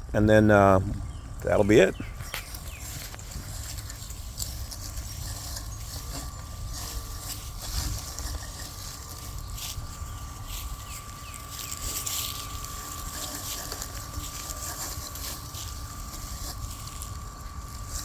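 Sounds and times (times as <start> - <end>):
robotic lawn mower whine: 0.4 - 18.0.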